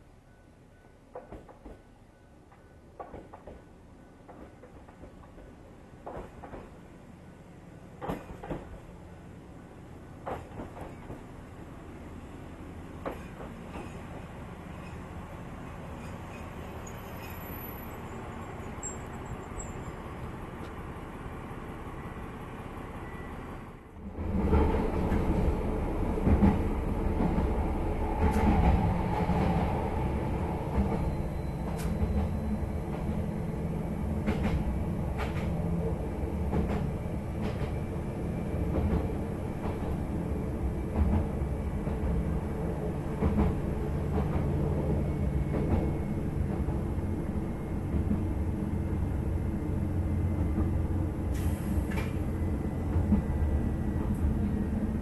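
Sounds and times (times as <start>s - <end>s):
railcar engine hum: 0.0s - 55.0s.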